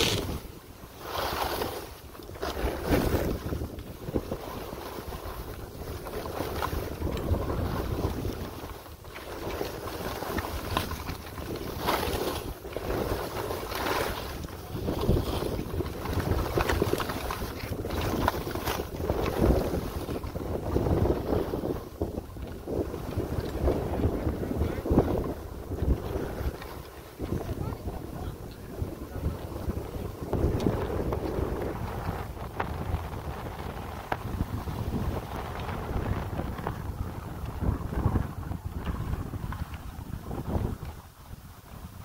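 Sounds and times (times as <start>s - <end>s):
skis swishing through snow: 0.0s - 42.0s
wind buffeting microphone: 0.0s - 42.0s.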